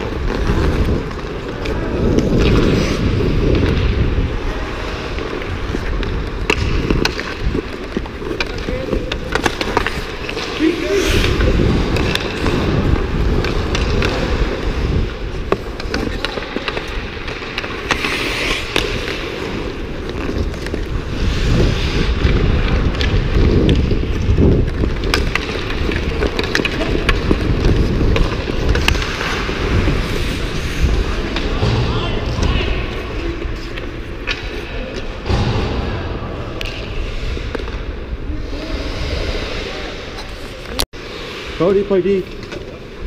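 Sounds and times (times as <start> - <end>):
skates scraping on ice: 0.0 - 35.5, 36.6 - 43.0
hockey sticks and puck clacking: 0.0 - 35.6, 36.5 - 43.0.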